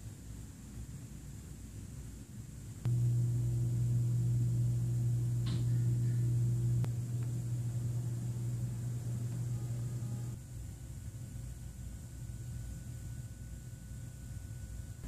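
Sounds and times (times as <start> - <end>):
low machine hum: 1.8 - 15.0.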